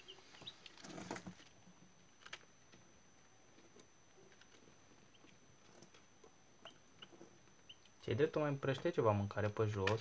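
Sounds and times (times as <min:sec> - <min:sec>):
chicks pecking: 0:00.0 - 0:08.2
faint high whine: 0:00.0 - 0:10.0.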